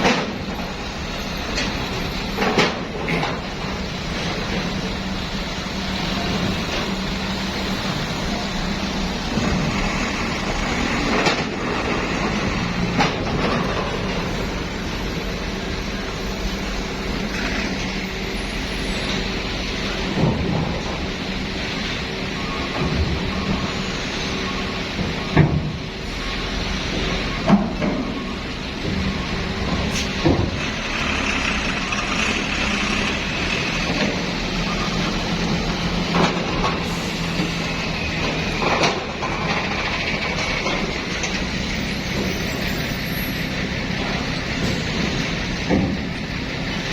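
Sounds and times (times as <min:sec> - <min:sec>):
bus engine humming: 0:00.0 - 0:46.9
vehicle rumbling in motion: 0:00.0 - 0:46.9.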